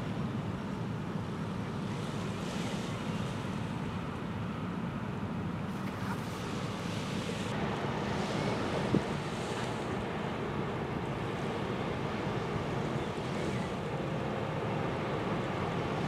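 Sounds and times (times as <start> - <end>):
water washing on shore: 0.0 - 4.7, 5.6 - 16.0.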